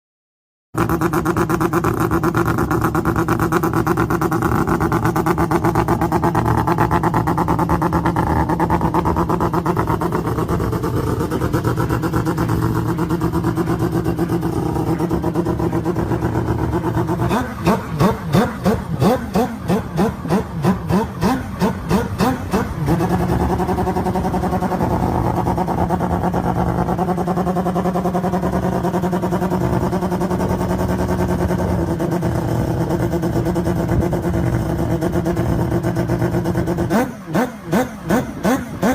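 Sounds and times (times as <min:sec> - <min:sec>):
engine throttle blips: 0:00.8 - 0:38.9
rotary engine idling: 0:00.8 - 0:38.9.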